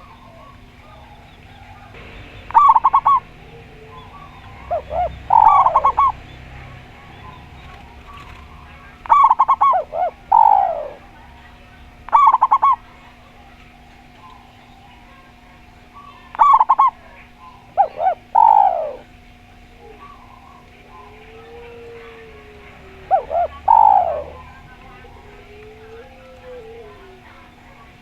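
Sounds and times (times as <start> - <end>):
doves cooing: 0.0 - 28.0.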